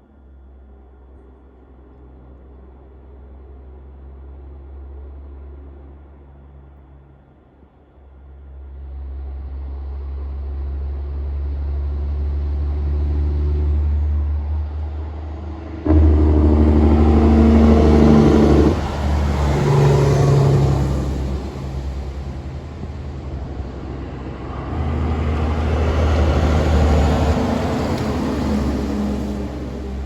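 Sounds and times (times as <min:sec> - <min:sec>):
diesel truck engine drone: 0:00.0 - 0:30.0.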